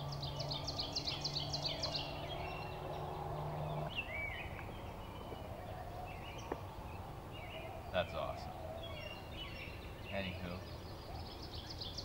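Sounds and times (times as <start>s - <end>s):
songbirds calling: 0.0s - 12.0s.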